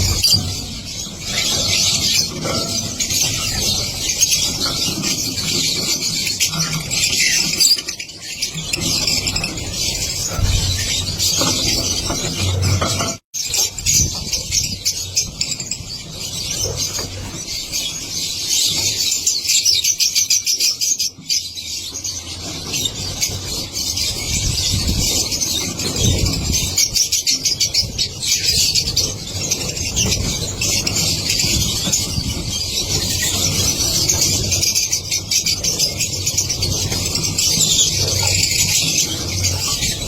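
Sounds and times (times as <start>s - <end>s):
lovebirds chirping: 0.0s - 40.0s.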